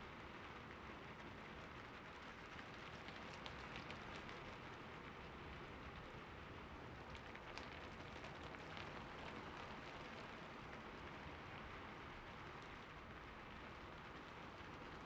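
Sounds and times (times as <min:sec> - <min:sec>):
raindrops ticking on a surface: 0:00.7 - 0:15.0.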